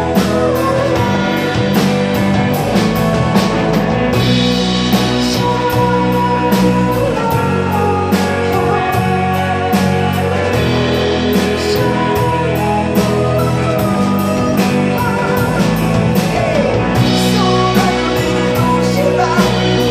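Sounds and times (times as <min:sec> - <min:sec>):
man singing lead vocal: 0:00.0 - 0:02.9, 0:04.2 - 0:19.9
live rock band playing: 0:00.0 - 0:19.9.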